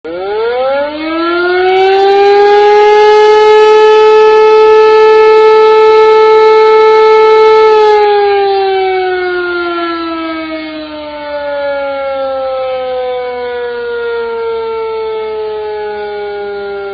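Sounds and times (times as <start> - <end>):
civil defense siren wailing: 0.0 - 16.9.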